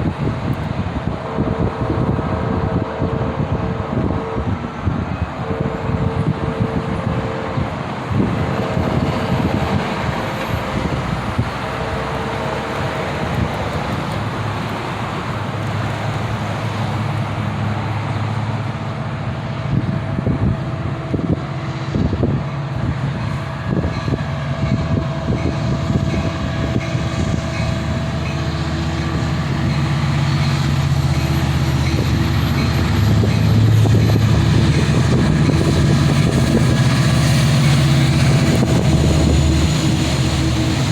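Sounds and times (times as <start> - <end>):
diesel locomotive engine drone: 0.0 - 40.9
train wheels on rails: 0.0 - 40.9.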